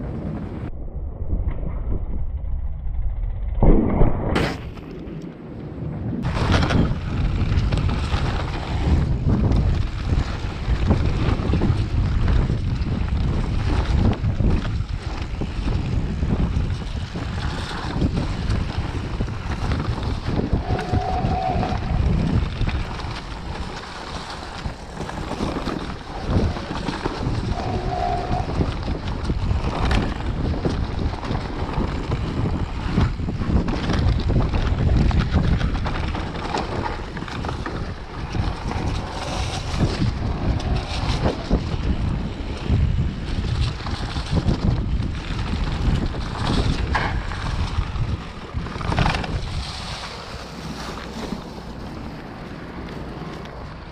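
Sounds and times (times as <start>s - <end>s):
bike tyres rumbling on dirt: 0.0s - 53.9s
wind buffeting microphone: 0.0s - 53.9s
bike clattering over bumps: 6.2s - 53.9s.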